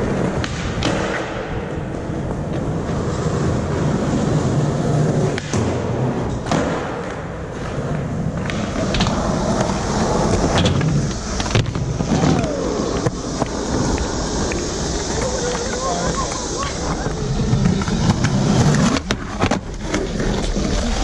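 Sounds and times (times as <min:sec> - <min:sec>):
skateboard clacking on ground: 0:00.0 - 0:03.4, 0:05.0 - 0:21.0
skateboard wheels rolling on concrete: 0:00.0 - 0:21.0.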